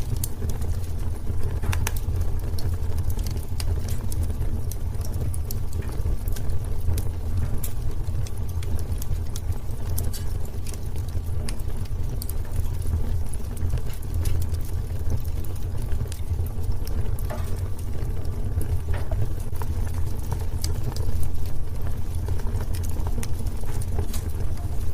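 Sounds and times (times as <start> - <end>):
sharp pops of fire: 0.0 - 24.9
wood fire crackling: 0.0 - 24.9.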